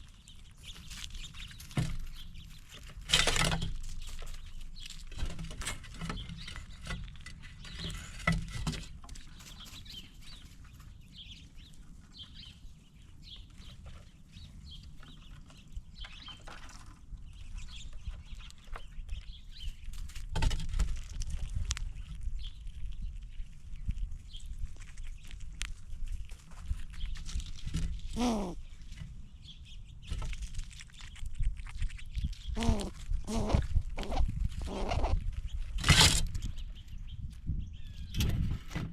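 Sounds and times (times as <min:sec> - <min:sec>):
animals tapping and scratching: 0:00.0 - 0:38.9.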